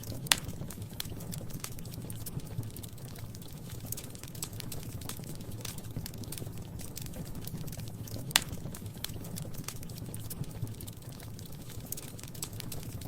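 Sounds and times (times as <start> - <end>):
low fire rumble: 0.0 - 13.0
wood fire crackling: 0.0 - 13.0.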